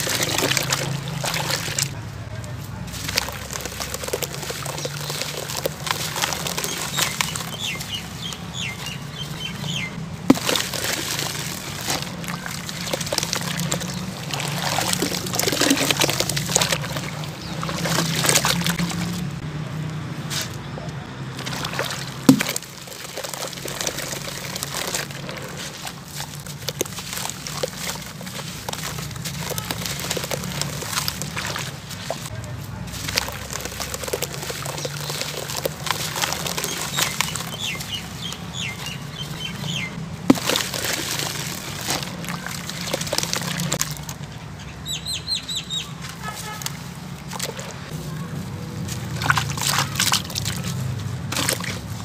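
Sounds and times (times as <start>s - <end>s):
gritty crackling: 0.0s - 44.8s
water sloshing and splashing: 0.0s - 52.0s.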